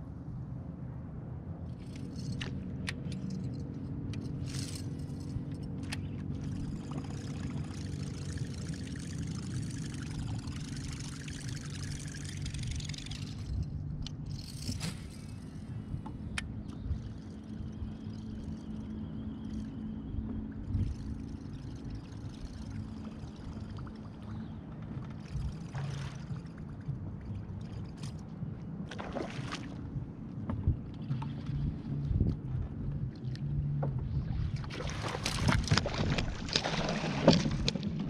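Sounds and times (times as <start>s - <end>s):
steady low hum: 0.0s - 38.0s
water noise: 1.7s - 38.0s.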